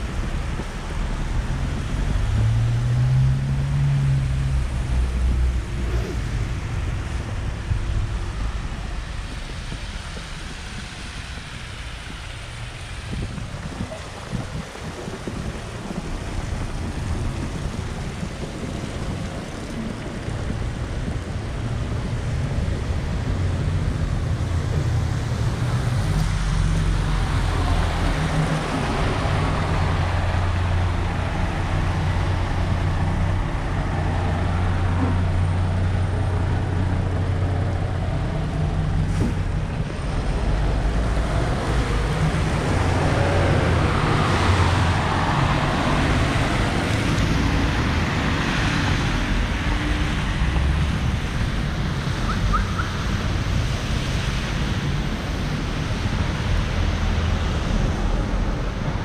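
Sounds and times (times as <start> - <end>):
cars passing on a road: 0.0 - 59.0.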